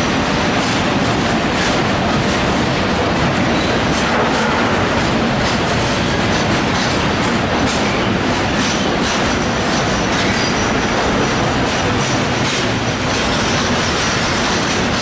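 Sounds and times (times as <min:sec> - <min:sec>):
clacks over rail joints: 0:00.0 - 0:15.0
train wheels rumbling on rail: 0:00.0 - 0:15.0.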